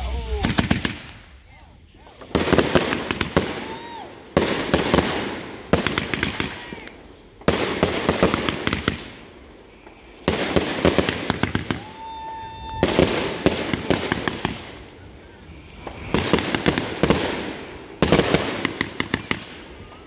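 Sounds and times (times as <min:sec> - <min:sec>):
firework whistling: 0:00.0 - 0:20.0
fireworks bursting and crackling: 0:00.0 - 0:20.0.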